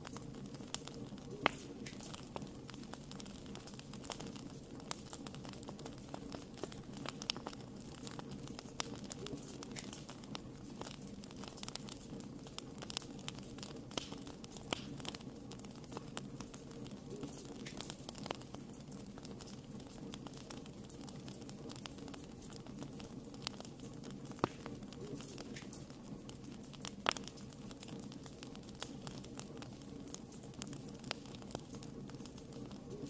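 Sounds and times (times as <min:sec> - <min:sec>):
fire flames rumbling: 0:00.0 - 0:33.0
fire popping: 0:00.0 - 0:33.0
wood fire crackling: 0:00.0 - 0:33.0.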